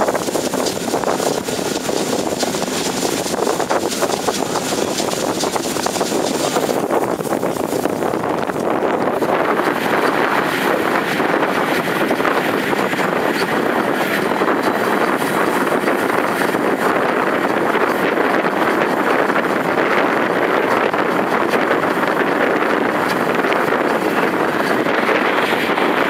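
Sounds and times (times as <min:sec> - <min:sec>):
train running noise: 0:00.0 - 0:26.0
wind on microphone: 0:00.0 - 0:26.0.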